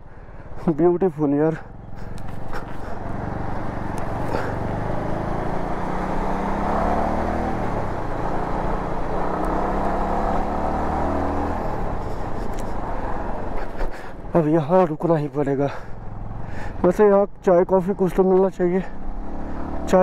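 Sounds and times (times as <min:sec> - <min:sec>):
motorcycle engine cruising: 0:00.2 - 0:20.0.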